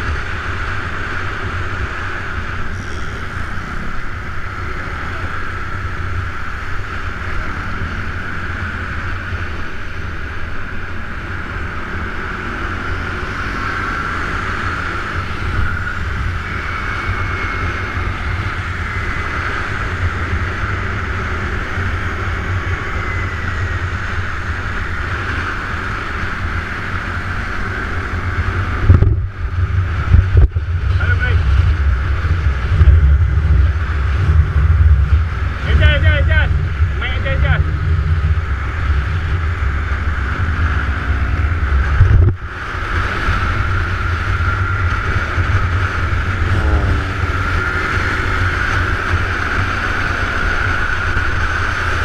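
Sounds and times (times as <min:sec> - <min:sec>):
scooter engine droning: 0:00.0 - 0:52.0
wind rumble on microphone: 0:00.0 - 0:52.0.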